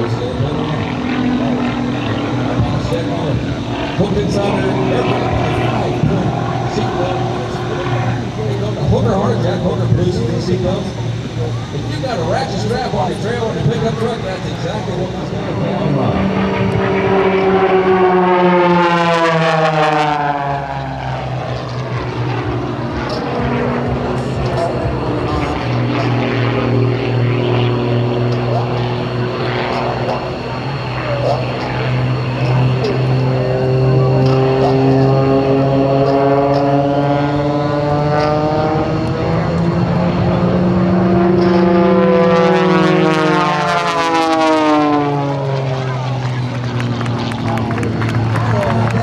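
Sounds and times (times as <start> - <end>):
propeller plane flying past: 0.0 - 49.0.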